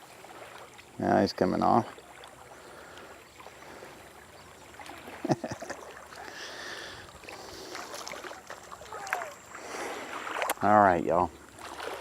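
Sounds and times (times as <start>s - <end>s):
water lapping against rocks: 0.0s - 12.0s.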